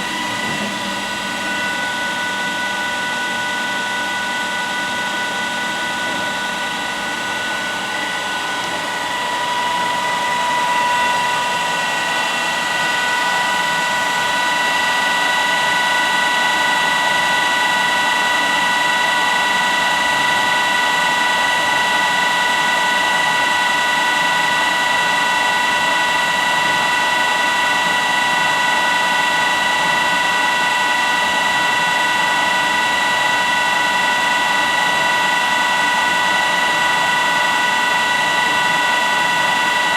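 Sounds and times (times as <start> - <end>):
high machine whine: 0.0 - 39.9
machine mechanical hum: 0.0 - 39.9.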